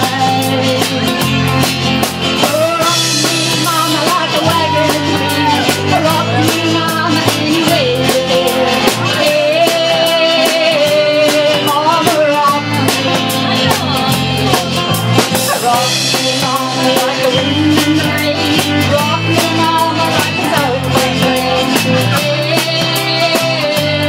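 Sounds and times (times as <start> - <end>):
acoustic guitar strumming: 0.0 - 24.0
bass guitar: 0.0 - 24.0
drum kit beat: 0.0 - 24.0.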